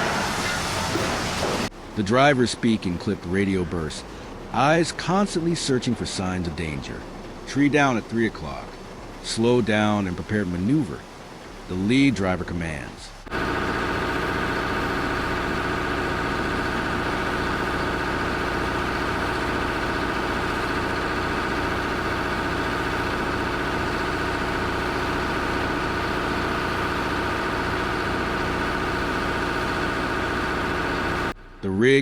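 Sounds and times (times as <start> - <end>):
heavy vehicle engine running: 0.0 - 11.9, 13.1 - 31.7.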